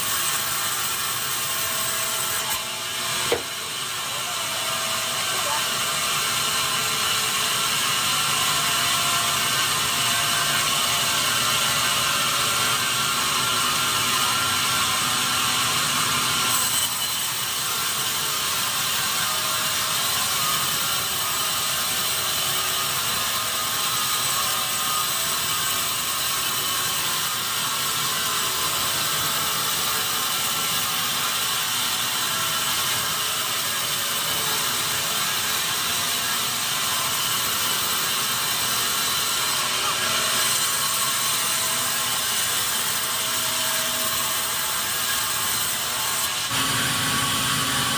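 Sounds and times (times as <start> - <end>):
sawmill machinery clatter: 0.0 - 47.9.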